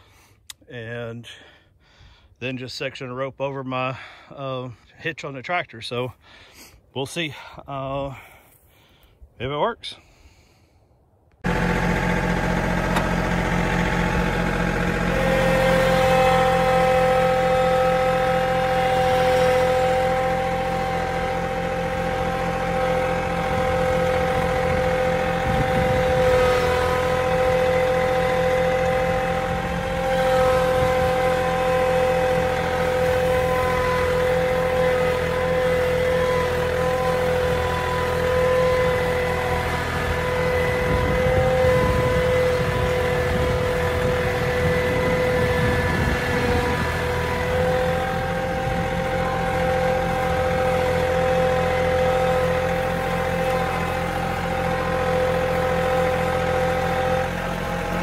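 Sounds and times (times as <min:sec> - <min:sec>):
tractor engine running: 0:10.6 - 0:58.0.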